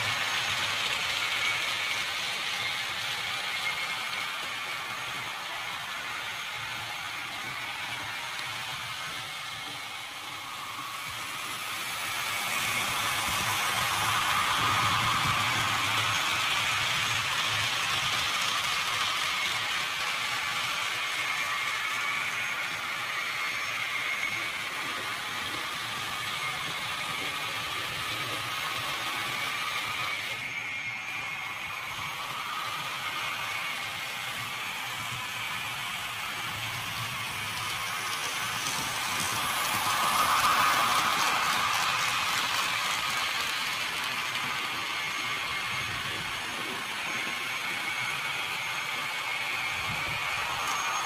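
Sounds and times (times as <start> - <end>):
faint whine: 0.0 - 51.0
model train motor whirring: 0.0 - 51.0.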